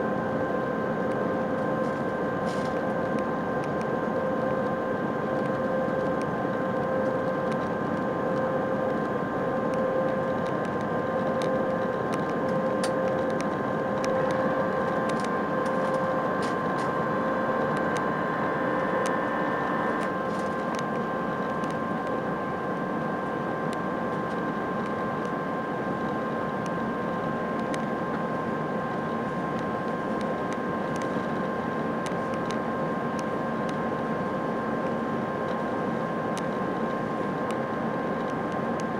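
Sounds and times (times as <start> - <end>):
engine and airflow rush: 0.0 - 38.9.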